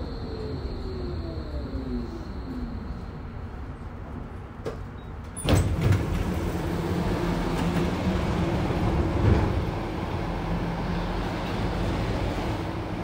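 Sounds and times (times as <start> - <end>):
tram running heard from inside: 0.0 - 13.0.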